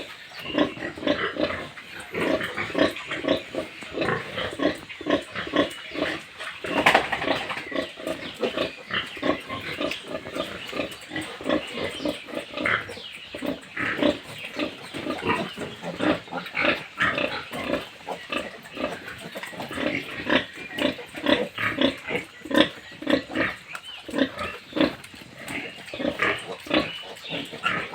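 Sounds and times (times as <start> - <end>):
pigs grunting and squealing: 0.0 - 27.9.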